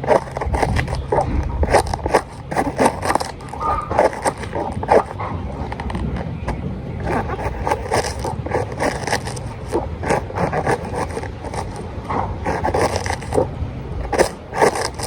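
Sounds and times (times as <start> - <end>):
knife slicing cabbage: 0.0 - 15.0
steady low hum: 0.0 - 15.0.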